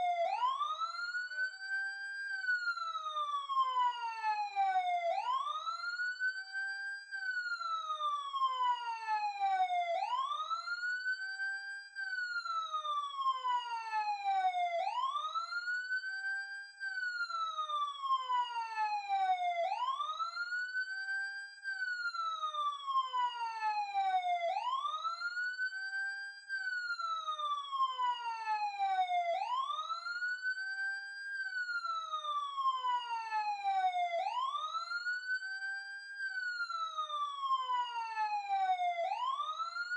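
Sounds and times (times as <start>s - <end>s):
emergency siren wailing: 0.0s - 6.7s, 7.3s - 39.9s.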